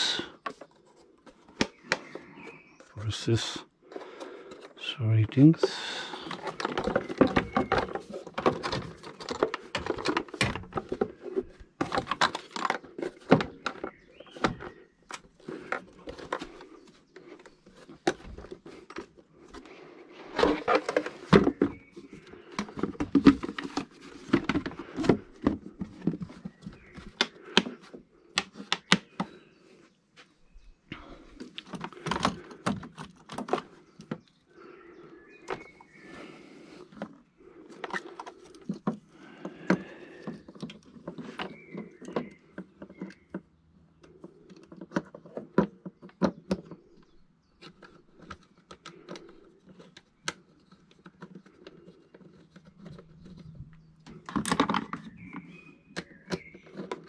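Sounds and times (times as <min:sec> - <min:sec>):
plastic parts clicking and knocking: 0:00.0 - 0:29.5, 0:30.9 - 0:36.1, 0:36.7 - 0:57.0.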